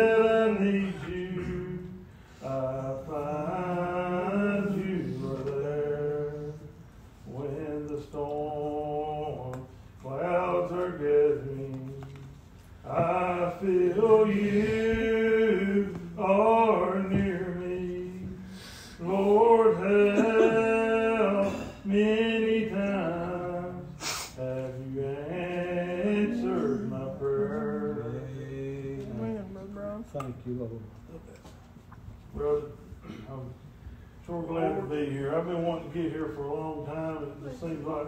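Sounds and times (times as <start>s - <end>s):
man singing a hymn: 0.0s - 29.5s, 32.3s - 33.6s, 34.2s - 38.0s.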